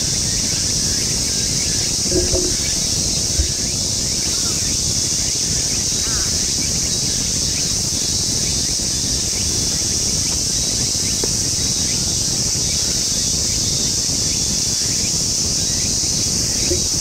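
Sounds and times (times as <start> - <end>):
high-pitched insect chorus: 0.0 - 17.0
wind on microphone: 0.0 - 17.0.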